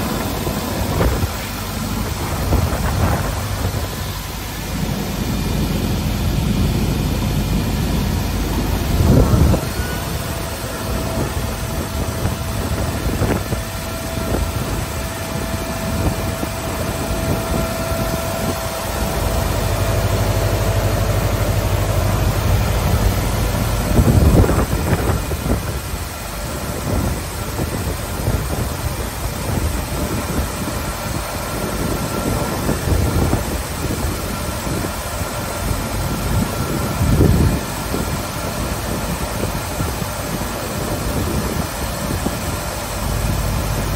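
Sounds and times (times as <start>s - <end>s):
machine whine: 0.0s - 43.9s
planer mechanical rumble: 0.0s - 43.9s.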